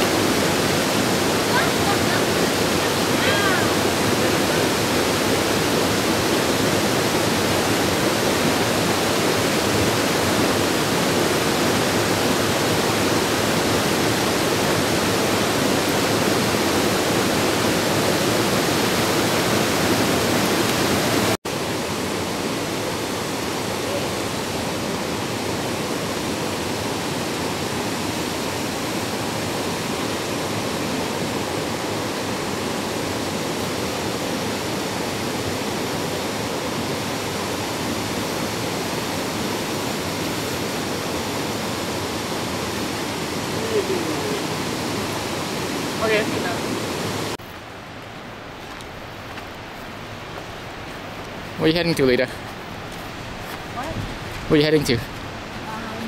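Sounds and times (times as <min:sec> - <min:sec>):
water rushing over cascade: 0:00.0 - 0:56.0.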